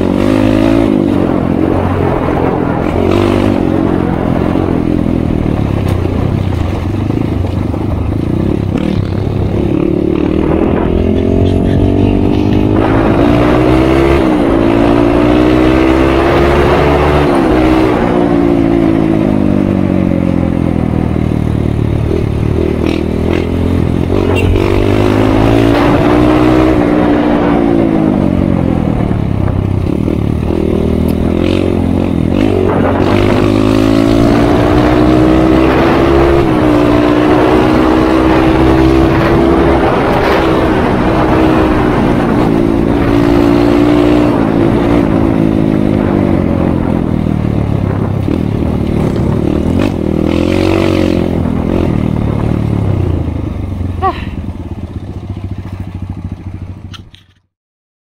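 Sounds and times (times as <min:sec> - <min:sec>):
motorcycle engine running: 0:00.0 - 0:57.5.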